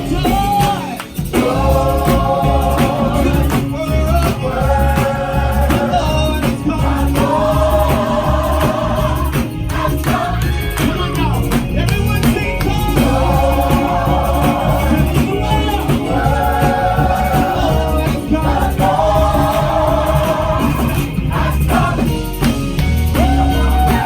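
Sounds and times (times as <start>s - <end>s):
gospel choir singing: 0.0s - 24.0s
live band with bass and drums: 0.0s - 24.0s.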